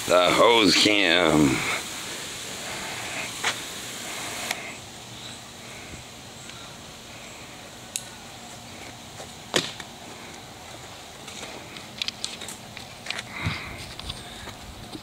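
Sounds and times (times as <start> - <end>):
garden hose spraying water: 0.0 - 15.0.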